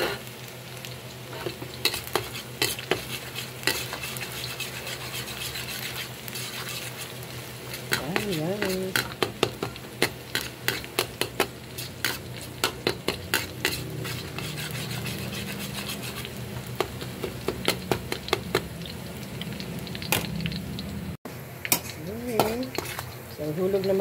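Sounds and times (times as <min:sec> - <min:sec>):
garlic sizzling in hot oil: 0:00.0 - 0:24.0.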